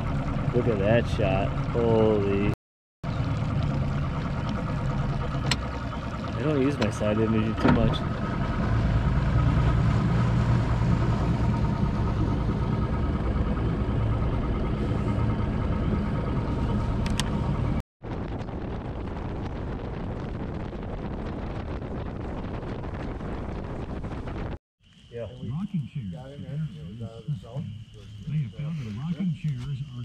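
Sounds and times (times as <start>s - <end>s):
boat motor running: 0.0s - 24.6s.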